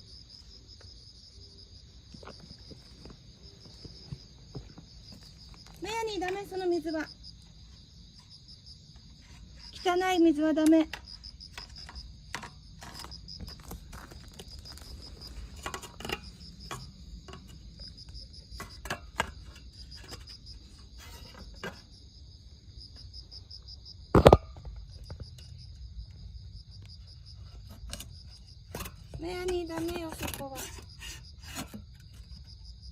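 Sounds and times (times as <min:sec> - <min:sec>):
insects chirping trill: 0:00.0 - 0:32.9.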